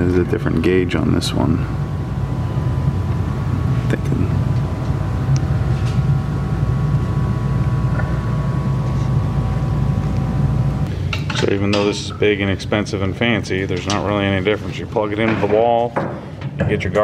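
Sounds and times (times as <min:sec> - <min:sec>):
faint high whine: 0:00.0 - 0:15.1
low mechanical hum: 0:00.0 - 0:17.0.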